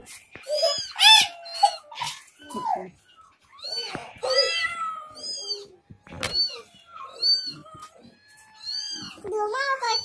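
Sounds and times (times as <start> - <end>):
cats meowing: 0.0 - 10.0.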